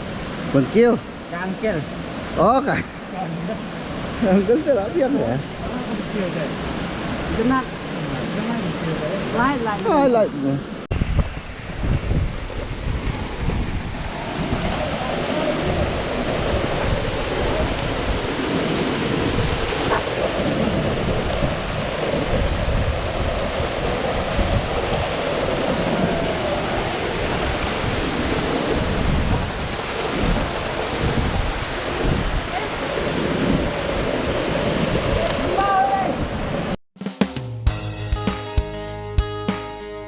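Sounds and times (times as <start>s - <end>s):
wind buffeting microphone: 1.7s - 36.8s.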